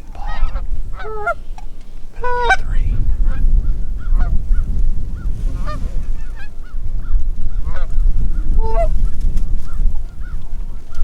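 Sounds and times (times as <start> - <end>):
geese honking: 0.0 - 9.1
steady low rumble: 0.0 - 11.0.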